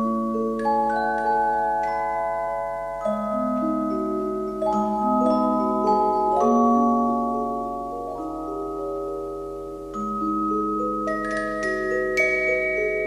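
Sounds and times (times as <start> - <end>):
mallet percussion music: 0.0 - 13.0.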